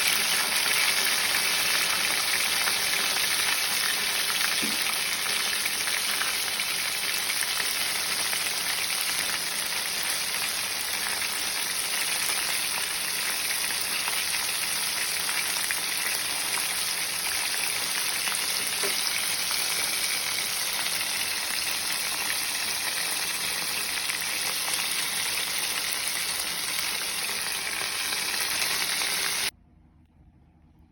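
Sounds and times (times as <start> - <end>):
food deep-frying in oil: 0.0 - 29.5.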